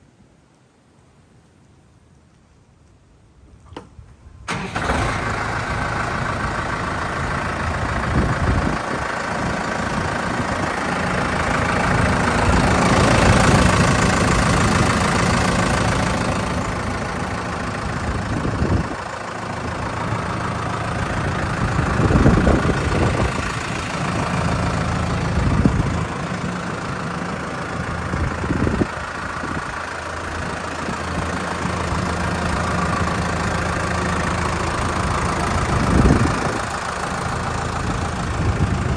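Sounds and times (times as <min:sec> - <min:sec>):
tractor diesel engine idling: 0:04.5 - 0:38.9.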